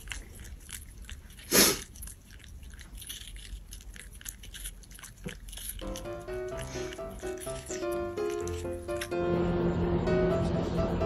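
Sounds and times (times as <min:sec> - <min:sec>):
dog chewing watermelon: 0:00.0 - 0:09.3.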